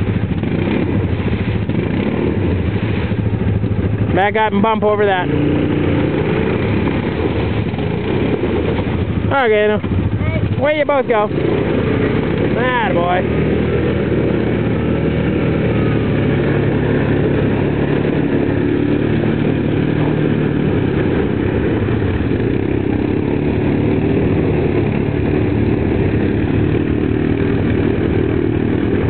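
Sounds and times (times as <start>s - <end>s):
atv engines running: 0.0s - 29.0s
splashing through mud: 0.0s - 29.0s.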